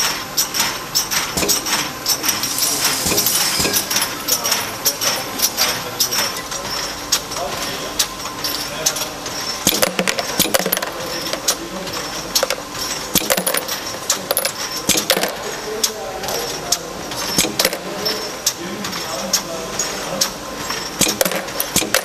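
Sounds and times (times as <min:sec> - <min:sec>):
machine running noise: 0:00.0 - 0:22.0.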